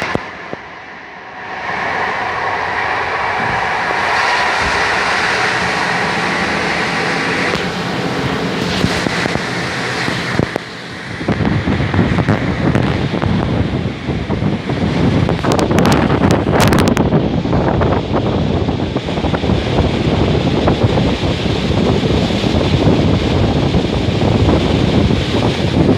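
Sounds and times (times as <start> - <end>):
train wheels on rails: 0.0 - 25.9
wind on microphone: 0.0 - 25.9.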